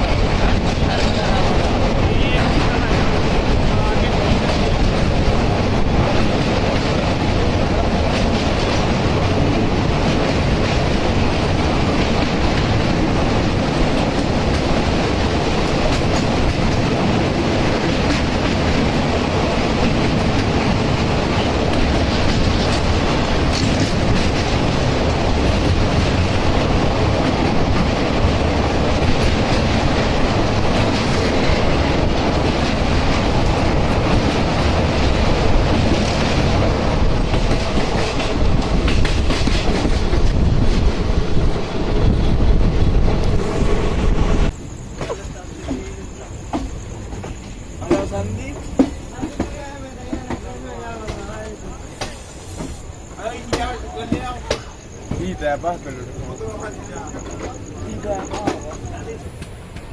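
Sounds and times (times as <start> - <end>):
train rumbling: 0.0 - 59.9
wheel clatter over rail joints: 0.0 - 59.9.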